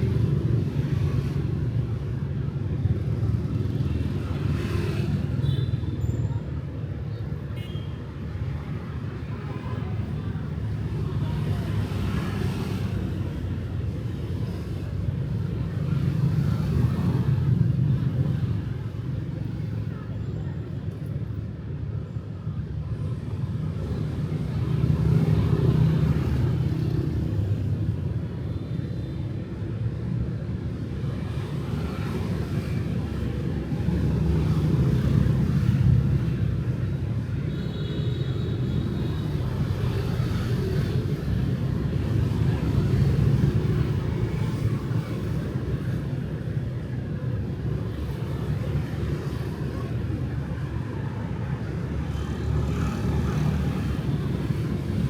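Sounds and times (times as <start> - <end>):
street traffic passing: 0.0 - 55.0.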